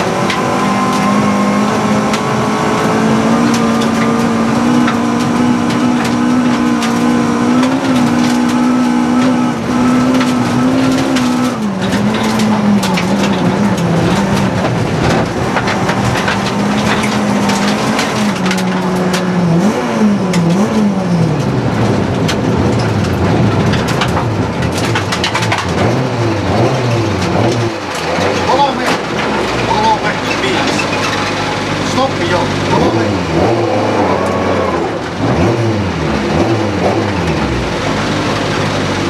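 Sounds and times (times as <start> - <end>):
car engine at high revs: 0.0 - 39.0
stones rattling against car: 0.0 - 39.0.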